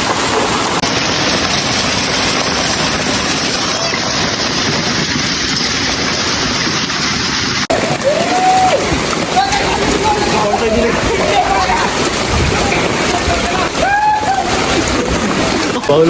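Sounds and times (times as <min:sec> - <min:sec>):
hail and rain pelting: 0:00.0 - 0:16.0.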